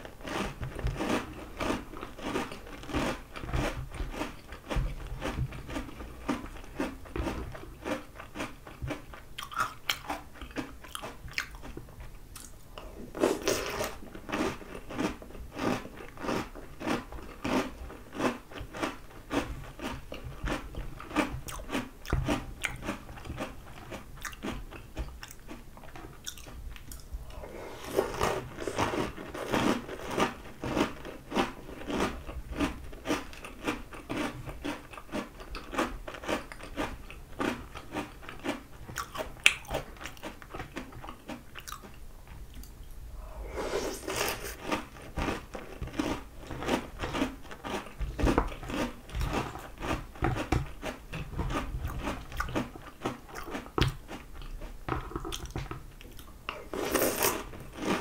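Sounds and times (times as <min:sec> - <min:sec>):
crunching cereal: 0:00.2 - 0:11.8, 0:13.2 - 0:25.6, 0:27.7 - 0:42.0, 0:43.4 - 0:55.7, 0:56.5 - 0:58.0.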